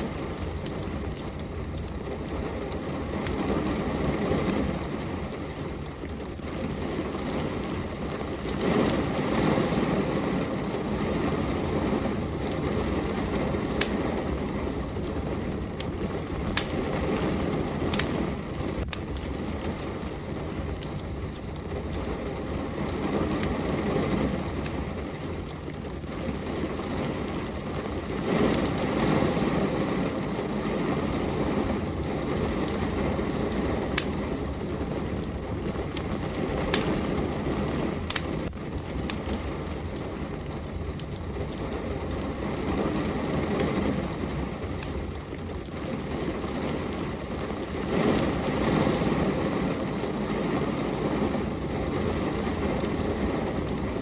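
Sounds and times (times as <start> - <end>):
steady rain: 0.0 - 54.0
wood fire crackling and popping: 0.0 - 54.0.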